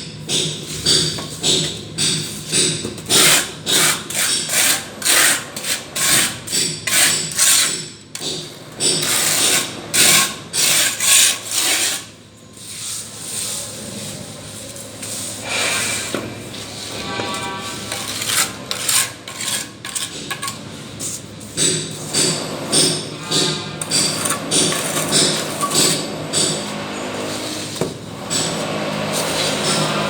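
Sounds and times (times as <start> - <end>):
plastering tool scraping plaster: 0.4 - 30.0.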